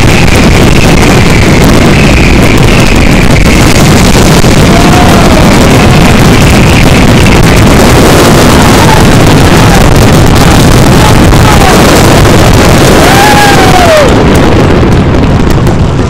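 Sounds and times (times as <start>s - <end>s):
fireworks bursts and crackle: 0.0s - 16.0s.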